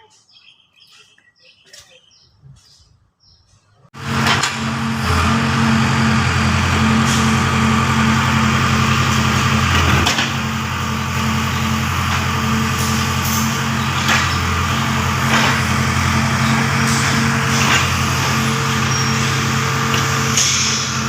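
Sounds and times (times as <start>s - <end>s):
machine motor running: 4.0s - 21.0s.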